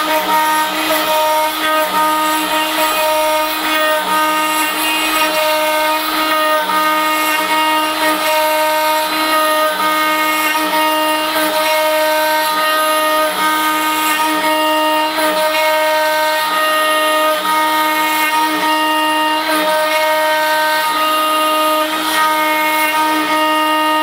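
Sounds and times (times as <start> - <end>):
router high whine: 0.0 - 24.0.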